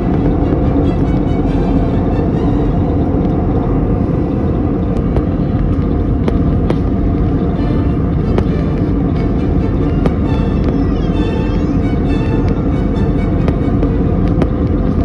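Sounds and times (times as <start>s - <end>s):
airliner engines and rushing air: 0.0s - 15.0s.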